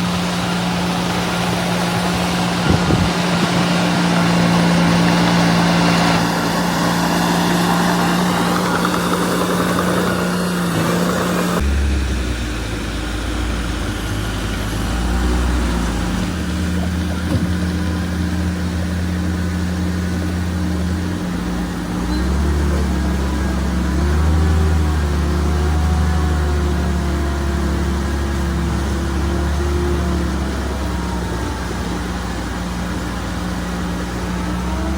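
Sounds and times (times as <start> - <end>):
diesel machinery engine running: 0.0 - 34.9.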